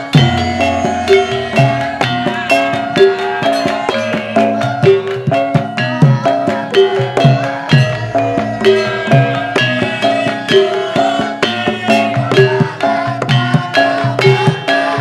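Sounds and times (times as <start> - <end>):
hand drum strikes: 0.0 - 15.0
ringing metallophone notes: 0.0 - 15.0.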